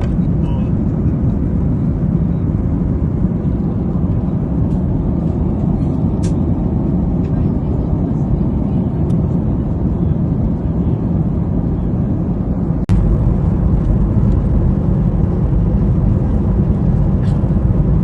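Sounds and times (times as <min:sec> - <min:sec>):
airplane cabin engine rush: 0:00.0 - 0:18.0.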